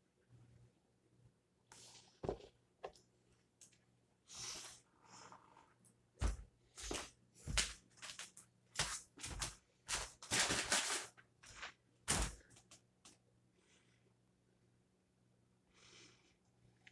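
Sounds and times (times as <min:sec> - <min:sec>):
person moving about a room: 0:00.1 - 0:14.2.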